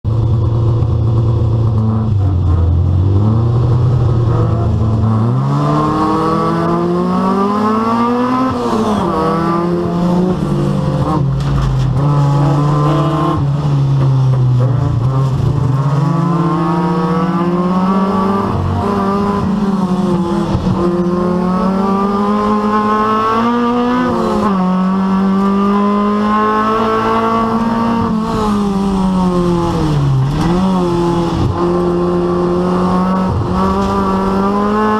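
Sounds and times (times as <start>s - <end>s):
rally car engine revving: 0.1s - 34.9s.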